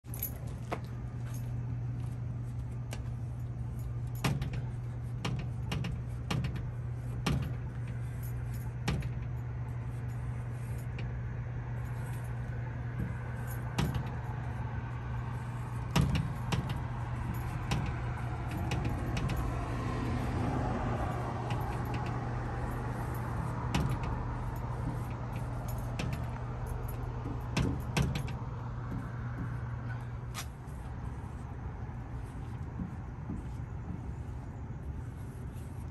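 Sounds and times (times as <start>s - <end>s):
passing traffic: 0.0s - 35.9s.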